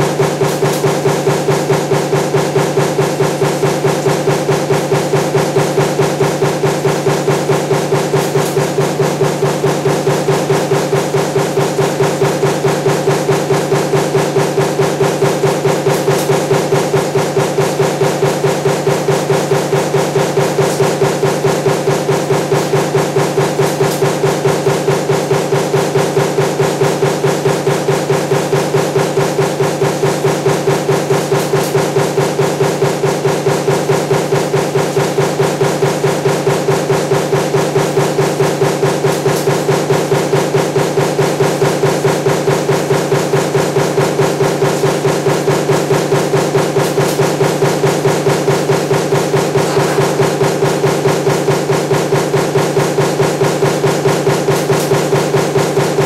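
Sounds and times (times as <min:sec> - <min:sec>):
power press stamping strokes: 0:00.0 - 0:56.0
steady machine hum: 0:00.0 - 0:56.0.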